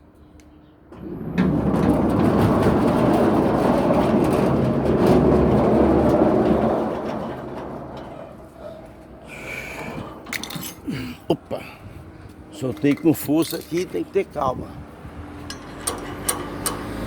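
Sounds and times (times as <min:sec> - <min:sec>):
gate rolling along track: 0:00.9 - 0:11.4, 0:12.4 - 0:17.0
garage gate motor rumbling: 0:00.9 - 0:17.0.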